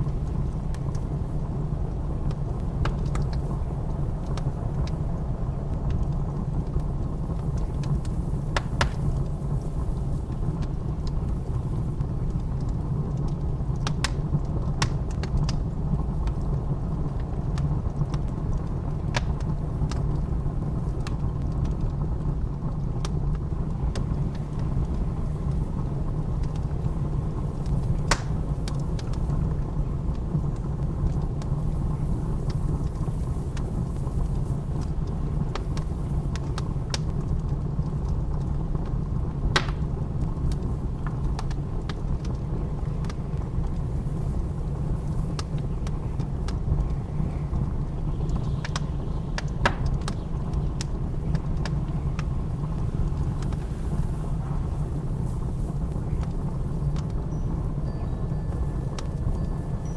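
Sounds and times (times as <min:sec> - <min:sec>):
blizzard wind rumbling: 0:00.0 - 0:59.9
wood fire crackling: 0:00.0 - 0:59.9.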